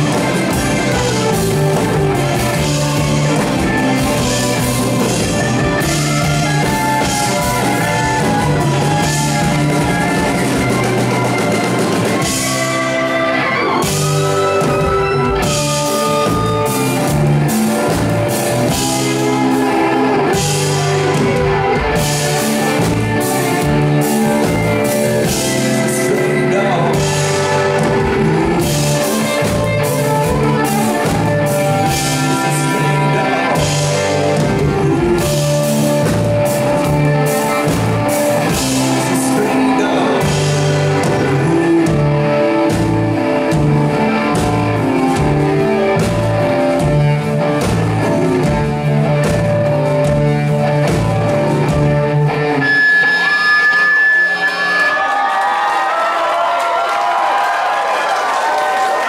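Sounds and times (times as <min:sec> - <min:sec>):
bass: 0:00.0 - 0:59.0
drum kit: 0:00.0 - 0:59.0
electric guitars: 0:00.0 - 0:59.0
keyboards: 0:00.0 - 0:59.0.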